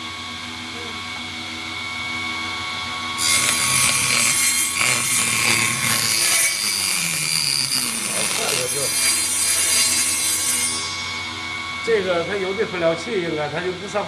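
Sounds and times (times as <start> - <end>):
saw motor whine: 0.0 - 14.0
table saw cutting wood: 0.0 - 14.0.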